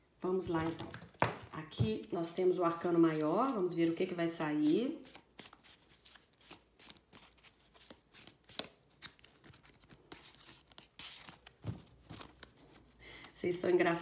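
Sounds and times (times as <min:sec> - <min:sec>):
cards being shuffled: 0:00.5 - 0:13.4.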